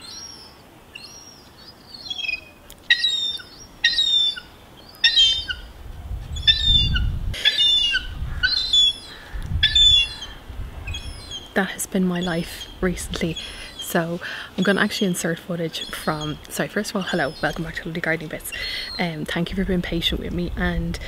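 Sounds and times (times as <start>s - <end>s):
seagulls calling: 0.0s - 19.2s.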